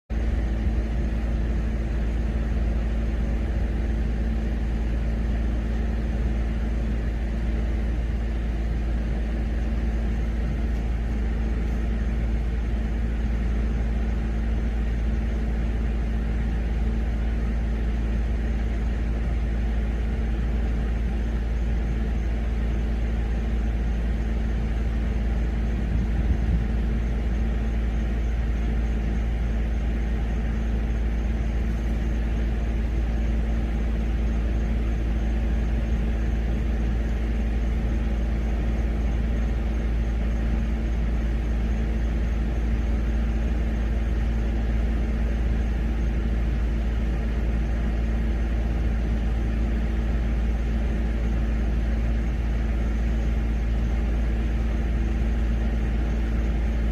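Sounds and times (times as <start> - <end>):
low machine hum: 0.1 - 56.9.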